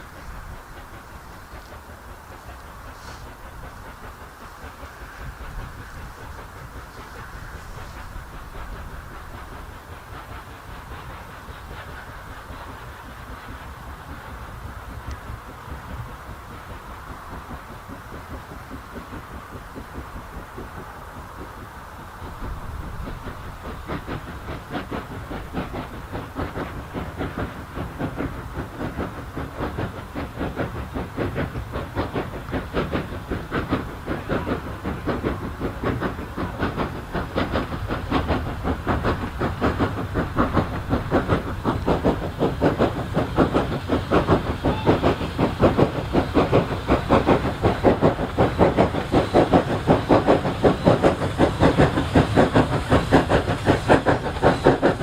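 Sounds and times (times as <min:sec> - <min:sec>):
steam hiss: 0:00.0 - 0:55.0
steam locomotive exhaust beats: 0:00.0 - 0:55.0.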